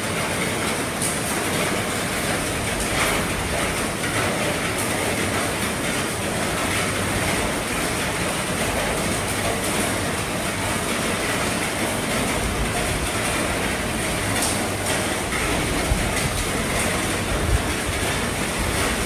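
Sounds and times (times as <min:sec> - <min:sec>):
heavy rain on a roof: 0:00.0 - 0:19.0.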